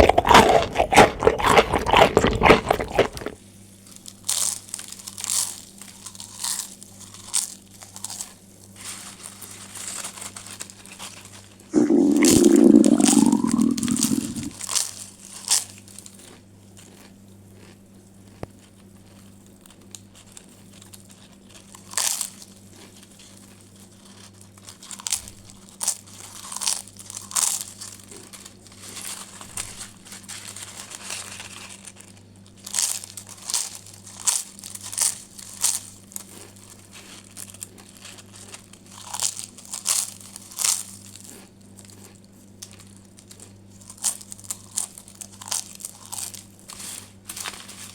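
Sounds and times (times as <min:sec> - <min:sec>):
crusty bread tearing and crunching: 0:00.0 - 0:03.4, 0:04.2 - 0:14.5, 0:19.1 - 0:47.9.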